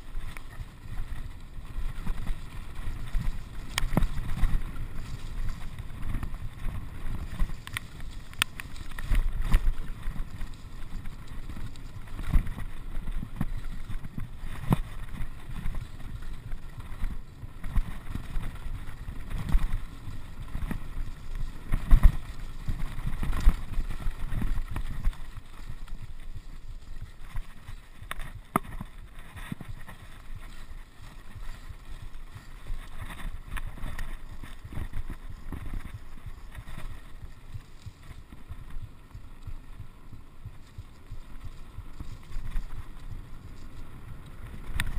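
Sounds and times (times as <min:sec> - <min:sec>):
bike clicks and rattles: 0:00.0 - 0:44.9
tyres rumbling on rough track: 0:00.0 - 0:44.9
wind buffeting microphone: 0:00.0 - 0:44.9.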